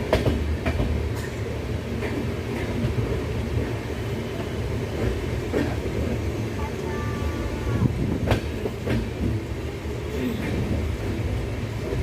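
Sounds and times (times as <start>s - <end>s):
train coach rumble: 0.0s - 12.0s.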